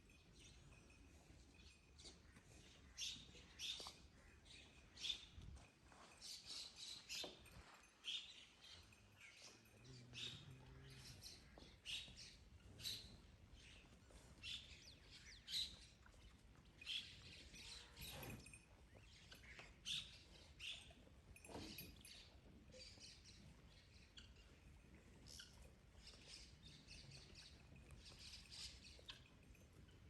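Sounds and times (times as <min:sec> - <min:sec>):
small birds chirping: 0:00.1 - 0:21.1, 0:21.7 - 0:30.0.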